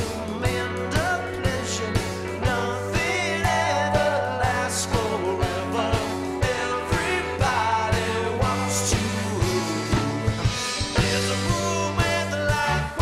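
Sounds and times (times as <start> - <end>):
live rock band playing: 0.0 - 13.0
man singing: 0.0 - 13.0.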